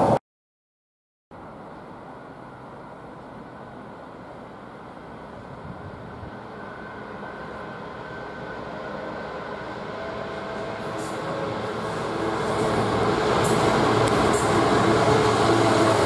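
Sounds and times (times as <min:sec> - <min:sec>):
diesel locomotive engine: 0:01.4 - 0:16.0
train wheel noise: 0:02.1 - 0:16.0.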